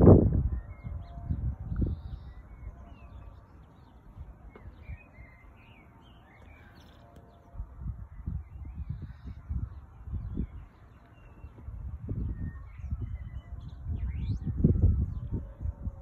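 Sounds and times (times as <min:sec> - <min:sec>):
wind buffeting microphone: 0:00.0 - 0:16.0
small birds chirping: 0:00.4 - 0:14.6.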